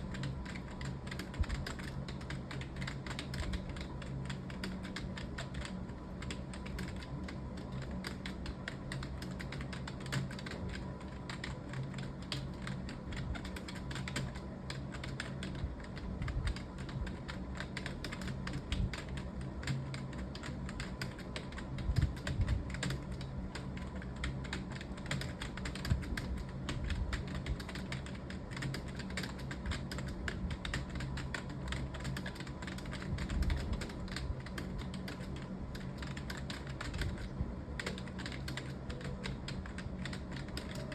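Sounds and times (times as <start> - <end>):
fast keyboard typing: 0.0 - 40.9
steady low hum: 0.0 - 40.9.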